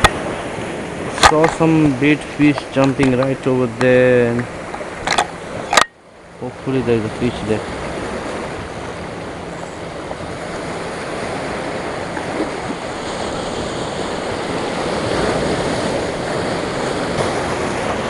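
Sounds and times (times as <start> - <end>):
surf breaking over rocks: 0.0 - 18.0.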